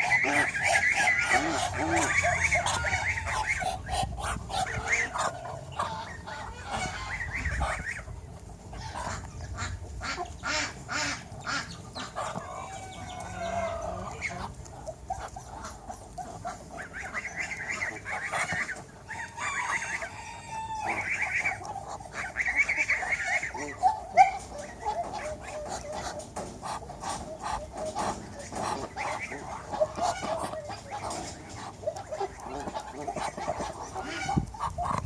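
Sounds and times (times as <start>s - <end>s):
chickens clucking and squawking: 0.0s - 35.0s.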